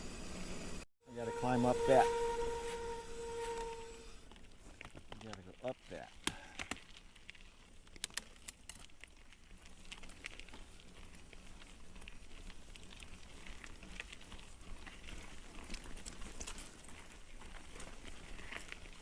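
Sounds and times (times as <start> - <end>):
bike crunching over gravel: 1.4 - 19.0.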